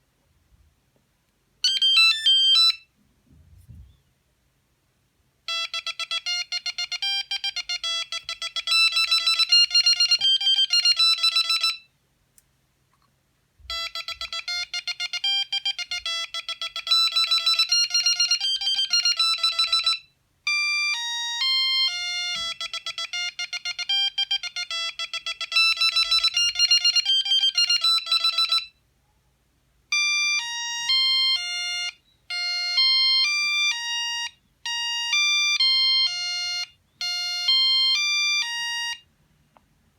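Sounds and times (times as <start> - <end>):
mobile phone ringtone melodies: 1.6 - 2.9, 5.5 - 11.9, 13.6 - 28.8, 29.9 - 39.1.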